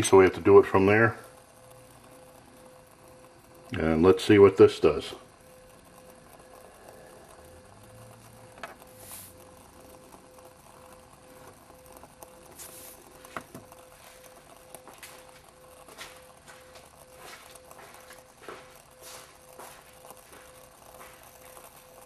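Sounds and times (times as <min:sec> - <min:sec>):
faint flame hiss: 0:00.0 - 0:22.0
small ticks and crackles: 0:00.0 - 0:22.0.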